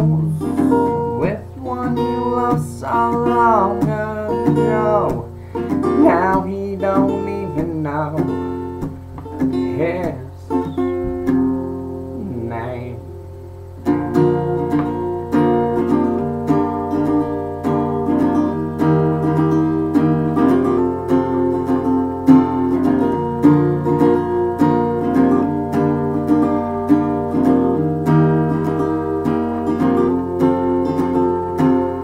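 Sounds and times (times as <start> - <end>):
faint low hum: 0.0 - 32.0
guitar strumming chords: 0.0 - 32.0.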